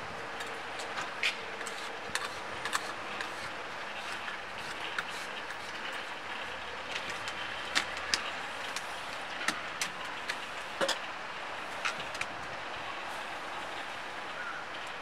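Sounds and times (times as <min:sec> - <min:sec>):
distant traffic: 0:00.0 - 0:15.0.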